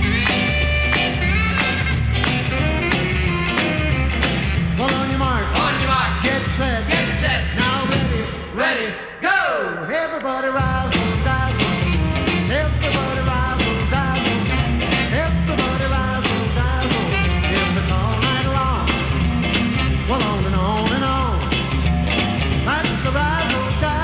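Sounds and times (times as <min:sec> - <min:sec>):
rock and roll music: 0:00.0 - 0:24.0.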